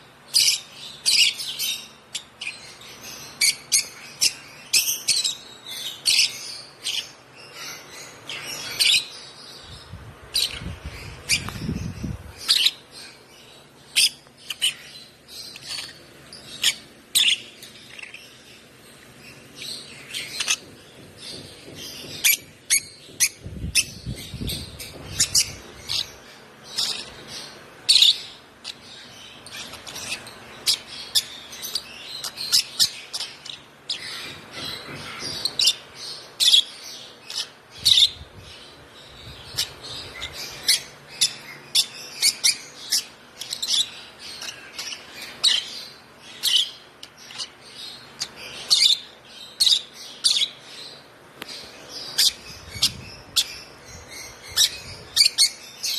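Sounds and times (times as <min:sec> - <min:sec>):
bird chick chirping: 0:00.0 - 0:55.9.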